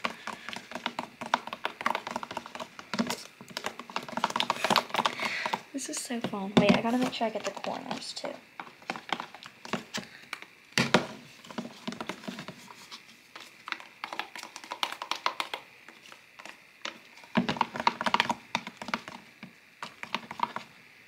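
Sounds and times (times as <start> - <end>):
plastic spoon stirring slime: 0.0 - 20.8.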